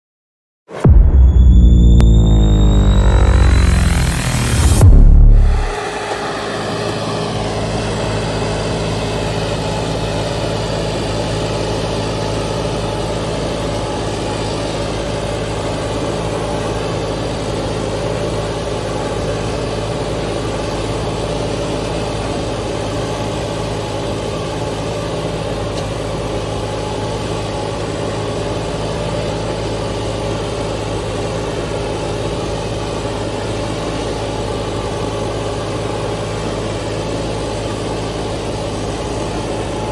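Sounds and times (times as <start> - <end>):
tractor diesel engine running: 0.8 - 39.9.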